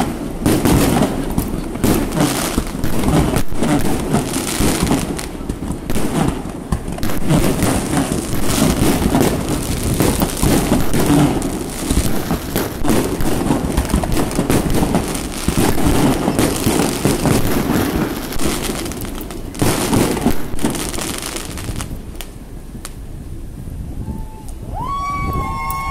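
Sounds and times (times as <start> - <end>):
fireworks bangs and crackles: 0.0 - 23.4.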